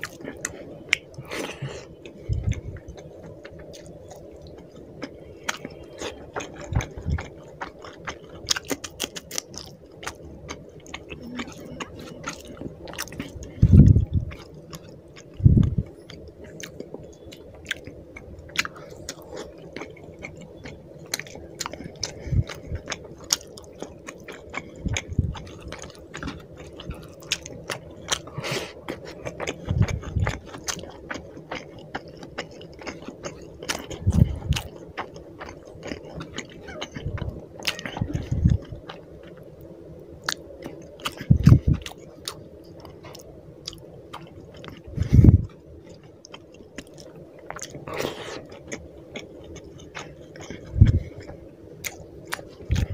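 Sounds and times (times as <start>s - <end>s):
person chewing with wet mouth clicks: 0.0s - 39.5s, 40.2s - 52.9s.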